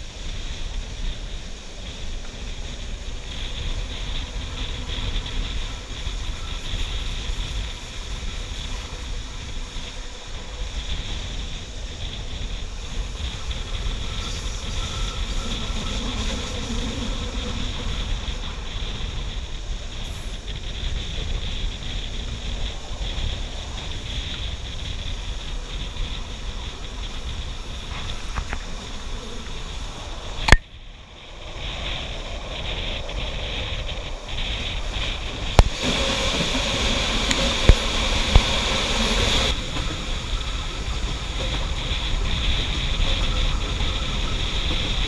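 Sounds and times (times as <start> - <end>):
train wheels rumbling on track: 0.0 - 45.0
wind rushing over microphone: 0.0 - 45.0.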